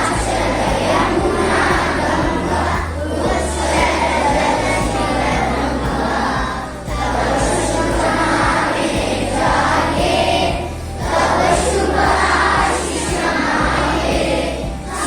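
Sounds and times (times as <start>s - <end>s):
crowd singing an anthem: 0.0s - 15.0s.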